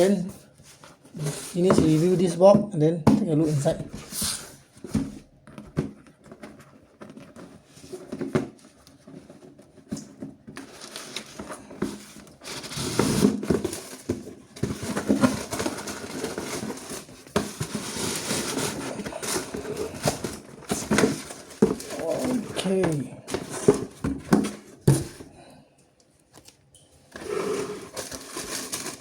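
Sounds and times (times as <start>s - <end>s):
cardboard box rustling and scraping: 0.0s - 2.4s, 3.5s - 25.3s, 27.1s - 29.0s.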